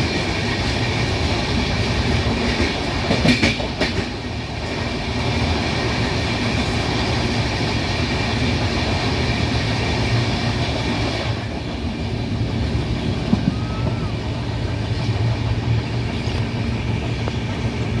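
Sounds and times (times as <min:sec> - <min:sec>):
passing train rushing: 0:00.0 - 0:18.0
train wheels rumbling on rail: 0:00.0 - 0:18.0.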